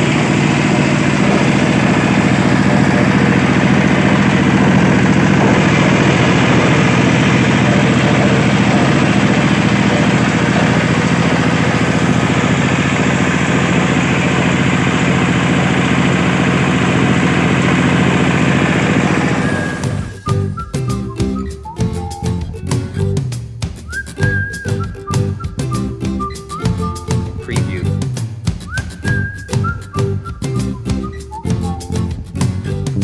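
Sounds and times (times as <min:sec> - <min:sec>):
engine running steadily: 0:00.0 - 0:20.9, 0:24.2 - 0:33.0.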